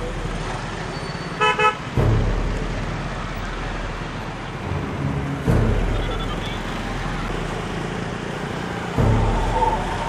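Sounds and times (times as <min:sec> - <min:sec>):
cars and motorbikes driving past: 0:00.0 - 0:10.0.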